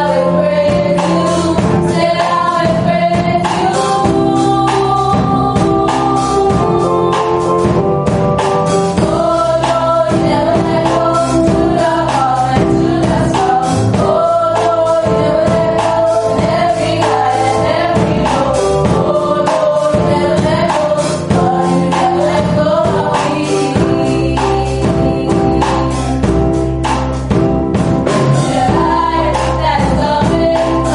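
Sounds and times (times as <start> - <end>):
band accompaniment: 0.0 - 30.9
choir singing gospel song: 0.0 - 30.9
steady drum beat: 0.0 - 30.9.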